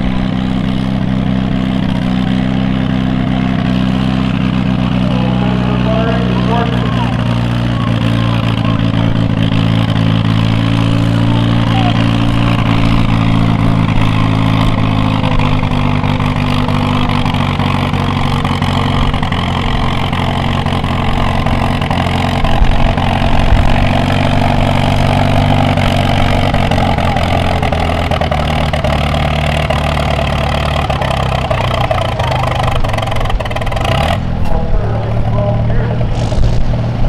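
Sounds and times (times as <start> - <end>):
tractor engine under heavy load: 0.0 - 37.0.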